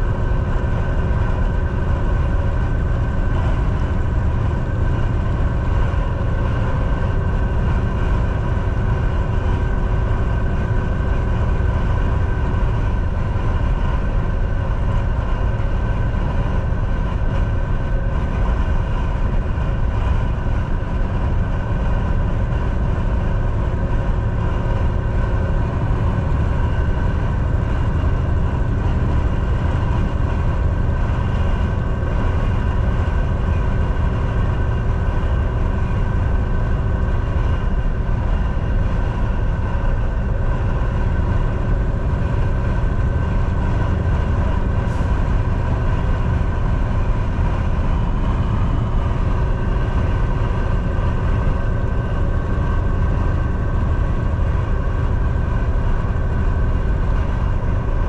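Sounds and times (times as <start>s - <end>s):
constant whine: 0.0s - 58.0s
truck engine and road rumble: 0.0s - 58.0s.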